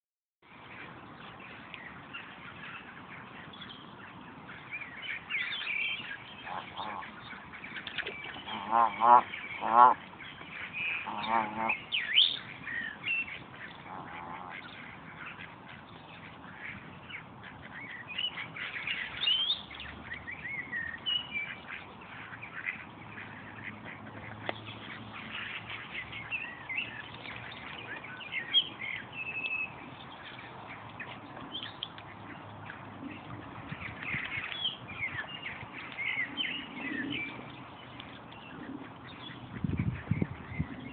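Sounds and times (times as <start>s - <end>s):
goslings peeping: 1.5s - 40.9s.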